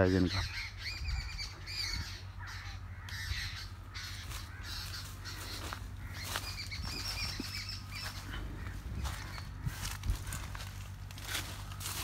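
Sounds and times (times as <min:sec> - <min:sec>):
birds calling: 0:00.0 - 0:12.0
steady low rumble: 0:00.0 - 0:12.0.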